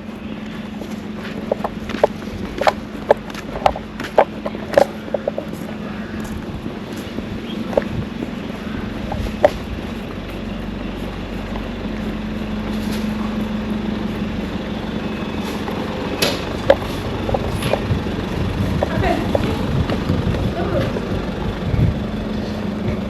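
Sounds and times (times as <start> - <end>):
road noise: 0.0 - 23.0
vehicle engine humming: 0.0 - 23.0.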